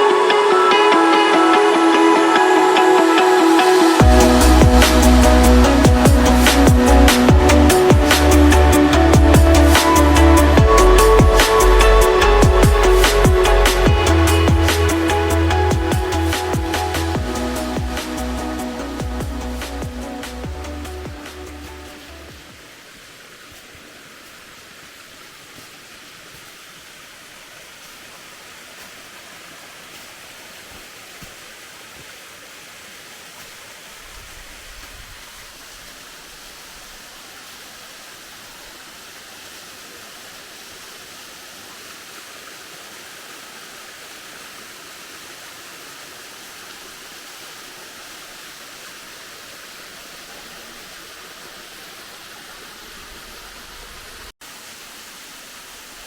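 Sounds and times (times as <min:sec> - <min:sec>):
running mountain water: 0:00.0 - 0:56.0.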